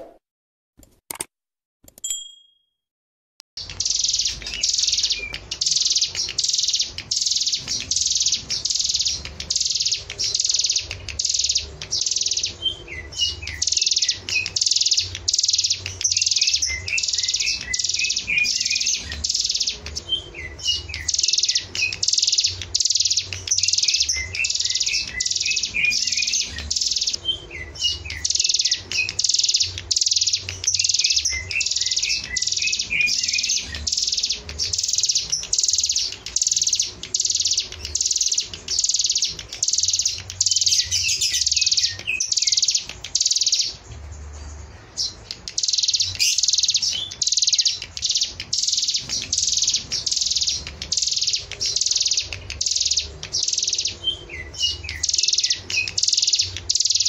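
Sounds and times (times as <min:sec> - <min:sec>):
bird singing harsh buzzy notes: 0:03.6 - 0:57.0
high bird chirps: 0:03.6 - 0:57.0.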